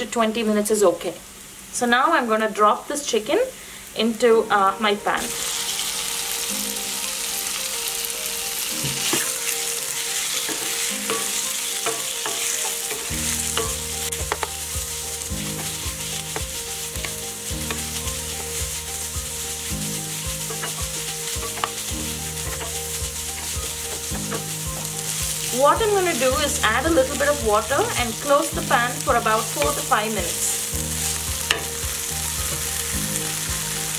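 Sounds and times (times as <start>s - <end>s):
chicken sizzling in a pan: 4.6s - 33.9s.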